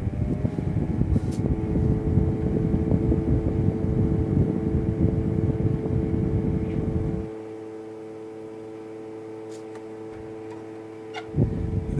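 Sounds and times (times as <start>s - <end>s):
air cooler fan humming: 0.0s - 11.9s.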